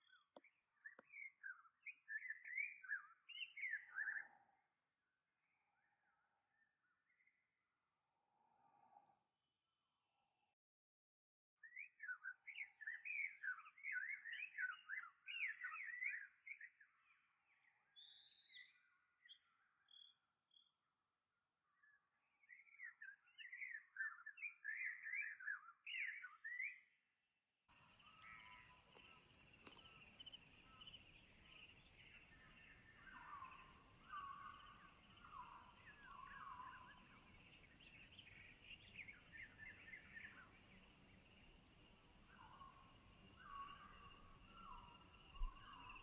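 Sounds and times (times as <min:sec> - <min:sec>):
birds singing: 0:00.0 - 0:04.6, 0:11.6 - 0:20.7, 0:21.6 - 0:26.9, 0:27.7 - 0:46.0.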